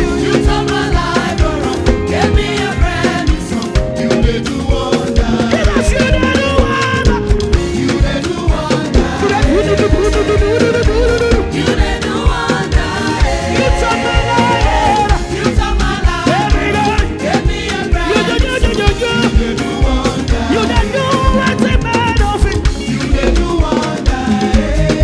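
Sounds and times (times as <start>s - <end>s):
live band playing gospel: 0.0s - 25.0s
voices singing: 0.0s - 25.0s.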